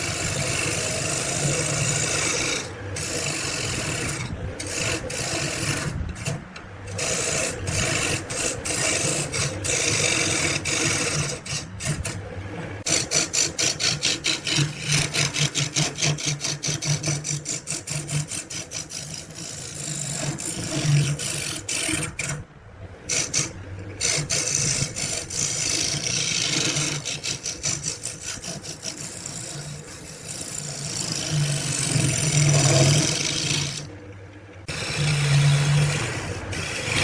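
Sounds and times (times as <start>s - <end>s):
sanding wood by hand: 0.0s - 12.2s, 12.8s - 22.4s, 23.1s - 33.9s, 34.7s - 37.0s.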